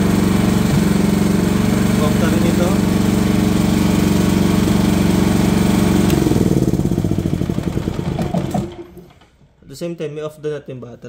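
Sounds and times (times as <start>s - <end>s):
generator engine running down: 0.0s - 9.1s.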